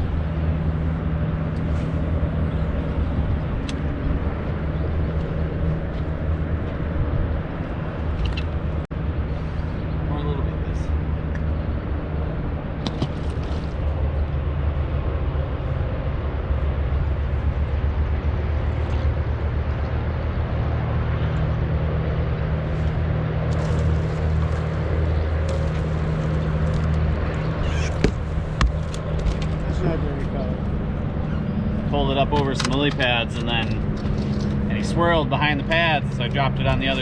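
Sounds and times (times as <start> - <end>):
boat motor running: 0.0 - 37.0.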